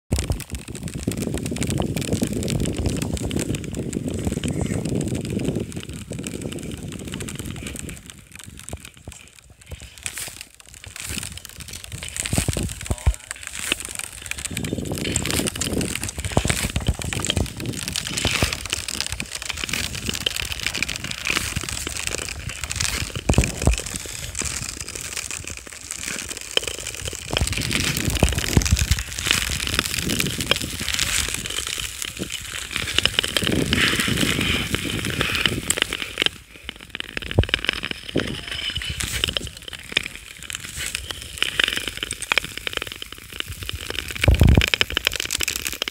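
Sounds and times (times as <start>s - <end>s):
ice skates scraping on ice: 0.2s - 45.9s.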